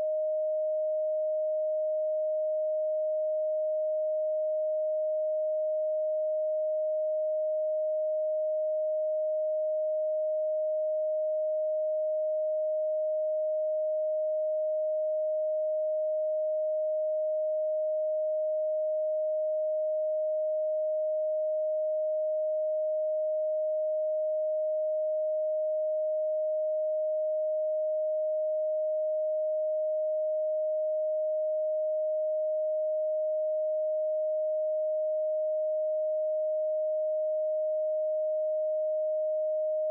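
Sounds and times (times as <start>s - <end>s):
electronic sine tone: 0.0s - 39.9s.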